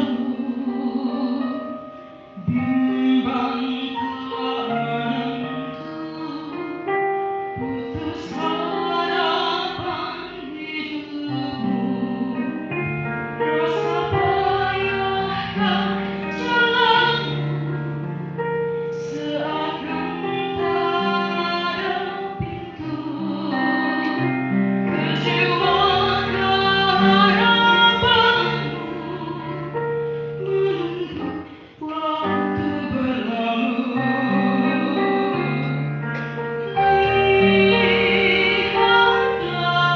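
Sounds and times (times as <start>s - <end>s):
woman singing with vibrato: 0.0s - 1.8s, 2.4s - 6.9s, 7.6s - 12.8s, 13.4s - 18.3s, 18.9s - 35.9s, 36.6s - 39.9s
instrumental accompaniment: 0.0s - 39.9s.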